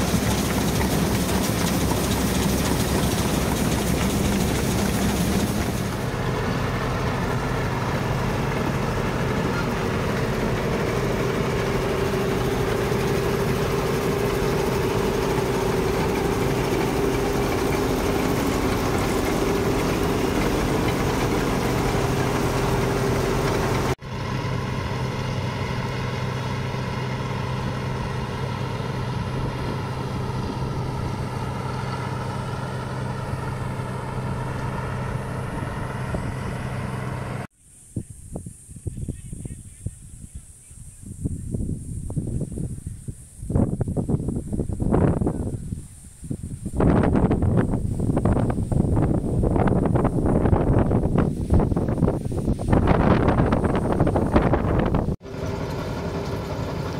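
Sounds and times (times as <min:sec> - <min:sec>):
combine harvester running: 0:00.0 - 0:37.5, 0:46.7 - 0:56.9.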